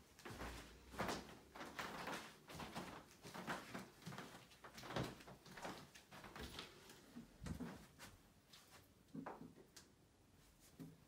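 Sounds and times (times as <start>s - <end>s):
footsteps: 0.0s - 9.5s.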